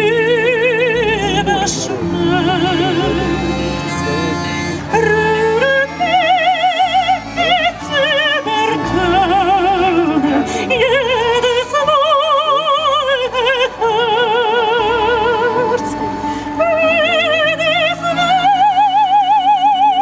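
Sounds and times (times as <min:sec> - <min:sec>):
operatic singing high voice: 0:00.0 - 0:20.0
sustained instrumental chords: 0:00.0 - 0:20.0.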